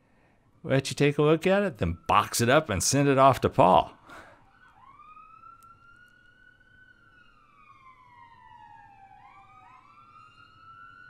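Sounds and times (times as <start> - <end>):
faint sirens wailing: 0.0 - 11.0.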